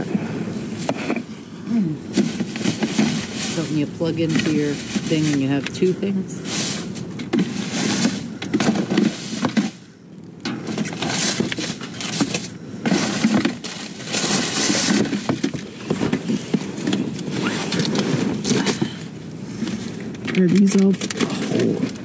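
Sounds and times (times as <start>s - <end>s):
plastic bags and cardboard rustling: 0.0s - 9.9s, 10.5s - 22.0s.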